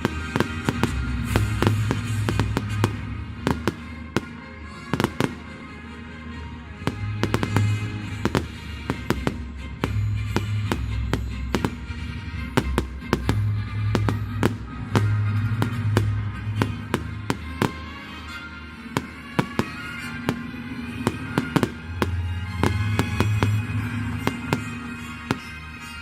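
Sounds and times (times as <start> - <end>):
fireworks bangs: 0.0 - 26.0
music playing: 0.0 - 26.0.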